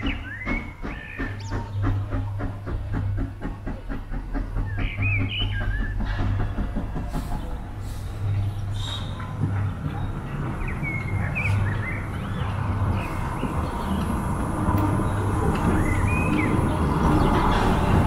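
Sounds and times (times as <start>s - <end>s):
birds chirping: 0.0s - 18.0s
steam locomotive rumbling: 0.0s - 18.0s.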